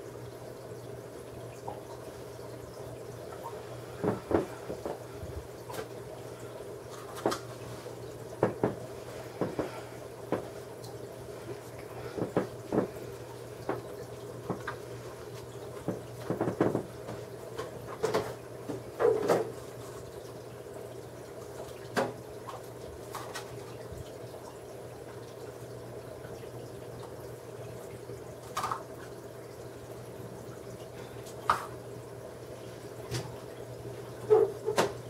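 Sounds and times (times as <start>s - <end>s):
aquarium filter humming: 0.0s - 35.0s
water trickling and dripping: 0.0s - 35.0s.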